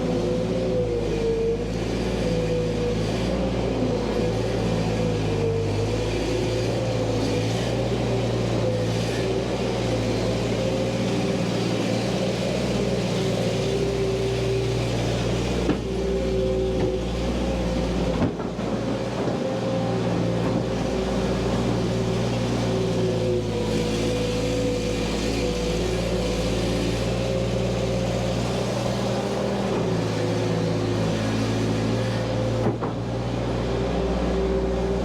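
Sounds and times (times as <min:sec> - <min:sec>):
skid steer engine running: 0:00.0 - 0:35.0.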